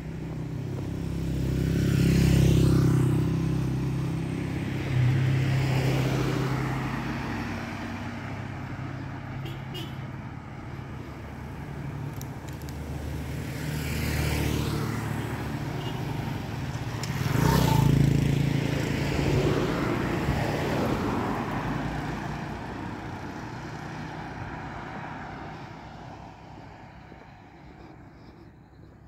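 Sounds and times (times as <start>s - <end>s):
vehicles passing on road: 0.0s - 29.0s.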